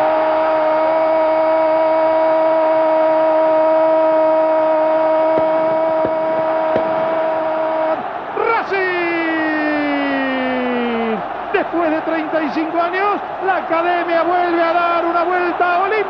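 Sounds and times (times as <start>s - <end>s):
stadium crowd noise: 0.0s - 16.0s.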